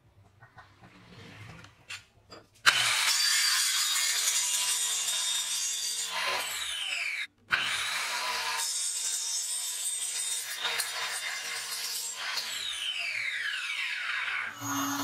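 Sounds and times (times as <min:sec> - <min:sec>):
circular saw cutting metal: 0:02.7 - 0:15.0.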